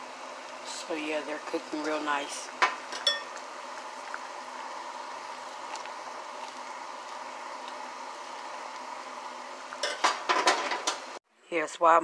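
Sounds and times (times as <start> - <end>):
pot of beans simmering: 0.0 - 11.2.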